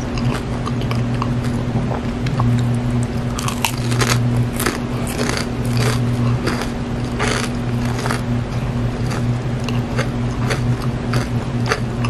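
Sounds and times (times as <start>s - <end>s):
steady low hum: 0.0s - 12.0s
chewing crispy fried food: 0.1s - 12.0s.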